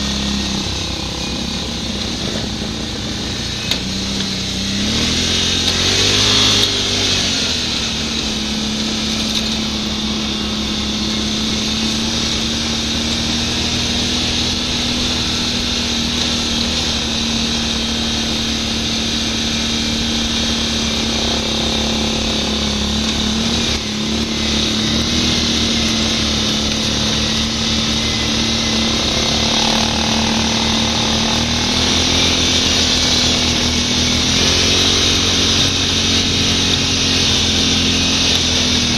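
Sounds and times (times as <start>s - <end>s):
quad engine running: 0.0s - 38.9s.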